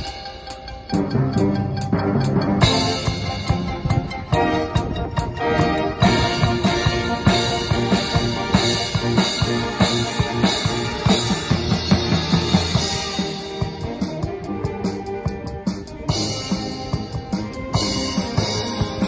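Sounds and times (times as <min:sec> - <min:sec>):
drum kit beat: 0:00.0 - 0:19.0
percussion: 0:00.0 - 0:19.0
wind band playing: 0:00.0 - 0:19.0.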